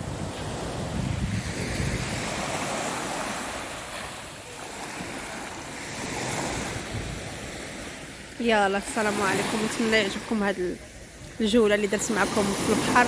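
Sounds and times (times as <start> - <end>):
wind buffeting microphone: 0.0 - 4.4, 5.0 - 13.0
sea waves washing ashore: 0.0 - 13.0.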